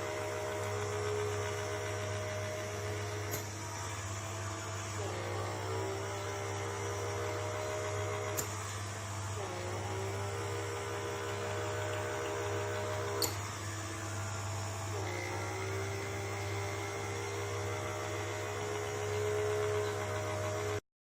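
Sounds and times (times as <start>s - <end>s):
vacuum motor whine: 0.0s - 20.8s.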